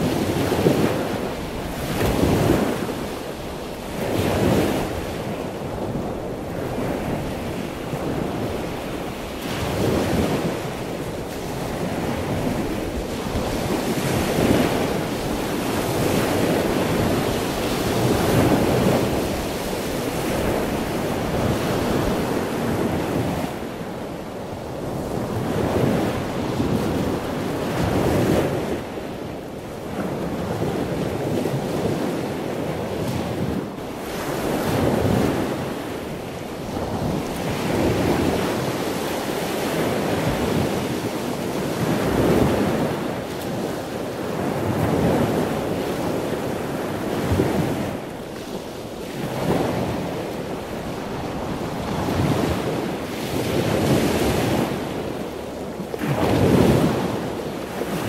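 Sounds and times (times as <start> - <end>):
waves washing onto shore: 0.0 - 58.0.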